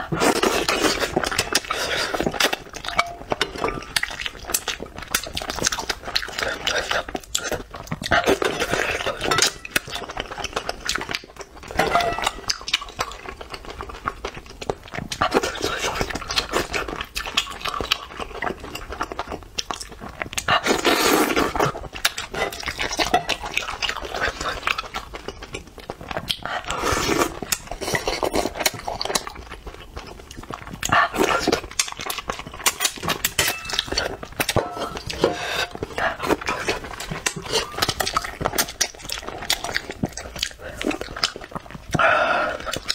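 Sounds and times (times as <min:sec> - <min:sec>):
chewing and biting: 0:00.0 - 0:42.9.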